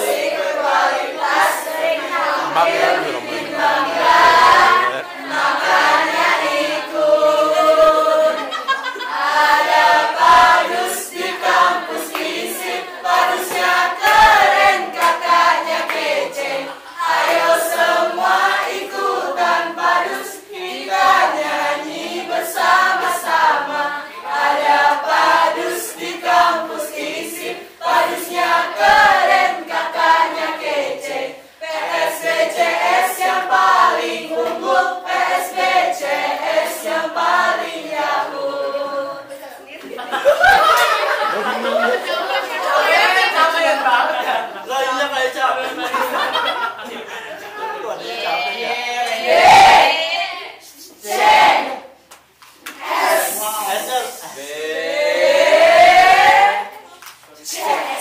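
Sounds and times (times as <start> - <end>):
mixed choir singing: 0.0 - 44.8, 45.6 - 52.0, 52.7 - 58.0.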